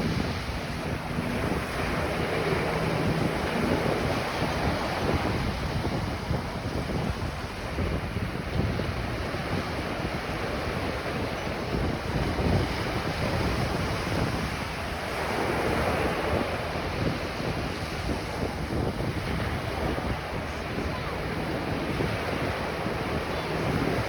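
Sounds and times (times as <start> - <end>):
waves breaking on a beach: 0.0 - 24.0
wind buffeting the microphone: 0.0 - 24.0.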